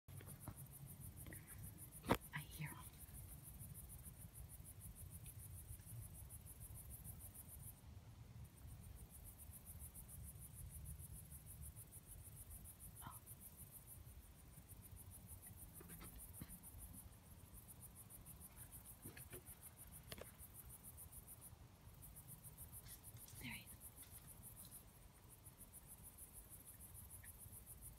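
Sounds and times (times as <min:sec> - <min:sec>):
crickets chirping: 0:00.1 - 0:27.9.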